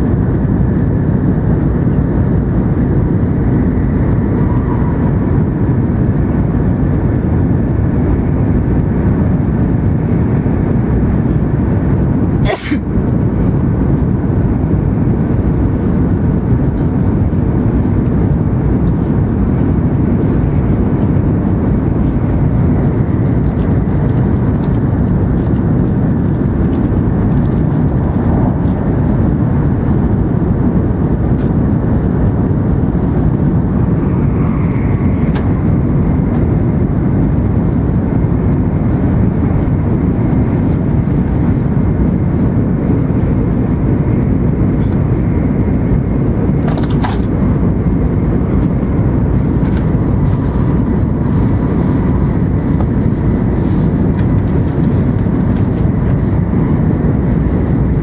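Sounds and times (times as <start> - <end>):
train roaring in tunnel: 0.0 - 58.0.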